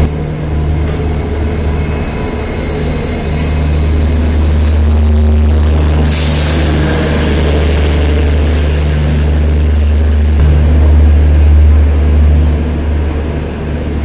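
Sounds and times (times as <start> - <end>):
deep train engine hum: 0.0 - 14.0.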